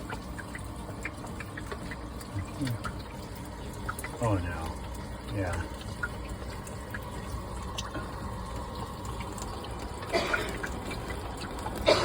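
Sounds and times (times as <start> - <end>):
water dripping into a bucket: 0.0 - 12.0
water trickling: 0.0 - 12.0.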